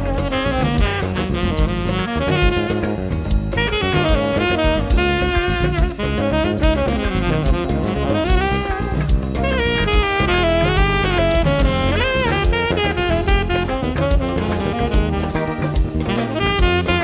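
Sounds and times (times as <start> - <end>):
drum kit and rhythm section: 0.0 - 17.0
tenor saxophone solo: 0.0 - 17.0.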